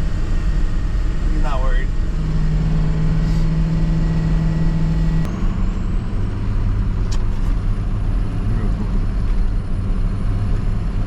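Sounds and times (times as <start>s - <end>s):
truck engine pulling uphill: 0.0s - 11.0s.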